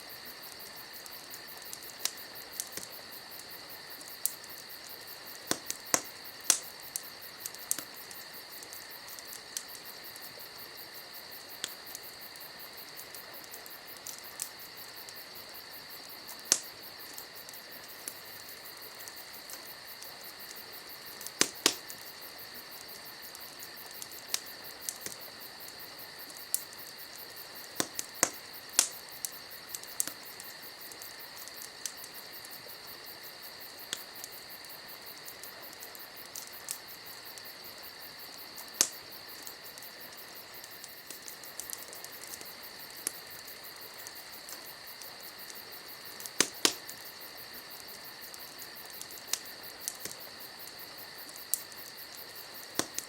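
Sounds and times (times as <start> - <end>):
campfire crackling: 0.0 - 53.0.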